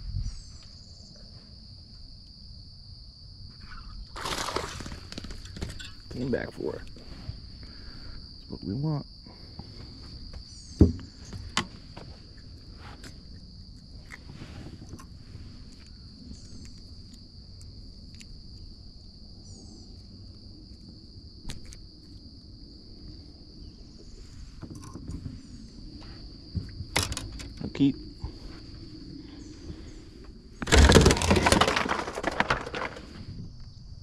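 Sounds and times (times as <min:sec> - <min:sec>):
insects calling: 0:00.0 - 0:34.0.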